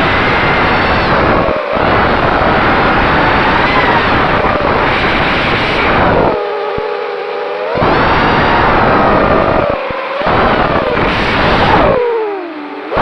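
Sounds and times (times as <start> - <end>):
wind buffeting microphone: 0.0 - 6.5, 7.8 - 13.0
drone motors whining: 0.0 - 13.0.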